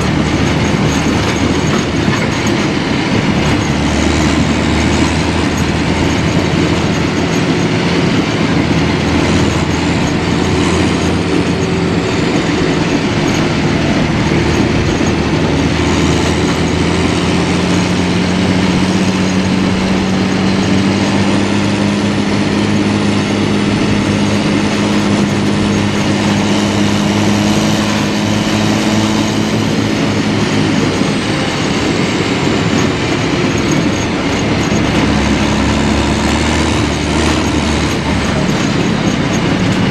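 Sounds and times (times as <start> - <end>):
diesel engine under load: 0.0 - 39.9
steel tracks clattering: 0.0 - 39.9.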